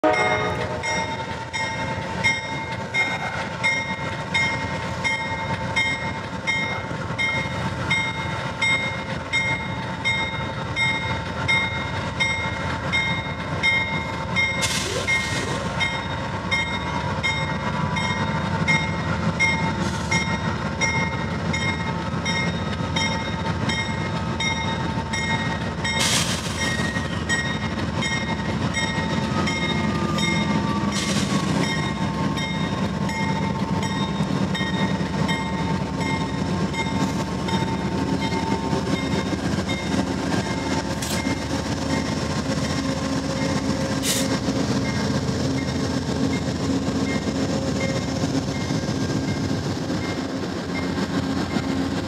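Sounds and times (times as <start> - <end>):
locomotive bell ringing: 0.0 - 43.8, 44.8 - 51.6
diesel locomotive engine rumble: 0.0 - 52.0.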